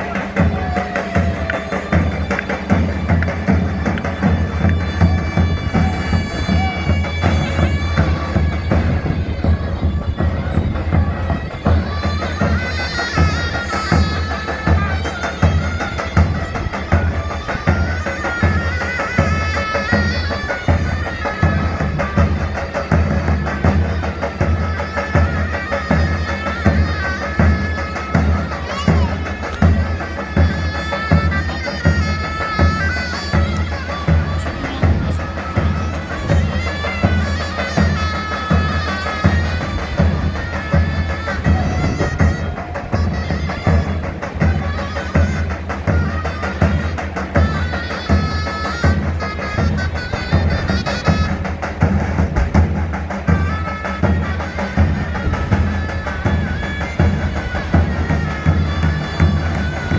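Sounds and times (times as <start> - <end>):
shrill shawm melody: 0.0 - 59.9.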